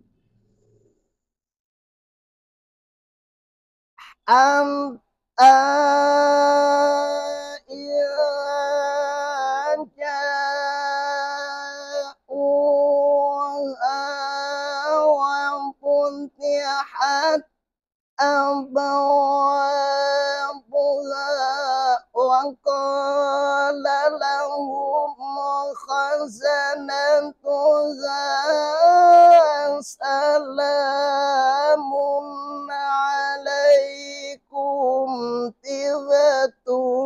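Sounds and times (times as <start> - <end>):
man chanting devotional recitation: 4.0 - 17.5, 18.2 - 37.0.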